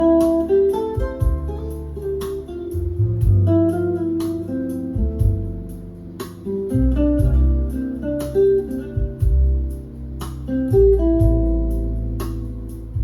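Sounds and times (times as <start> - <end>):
low bass notes: 0.0 - 13.0
plucked-string melody: 0.0 - 13.0.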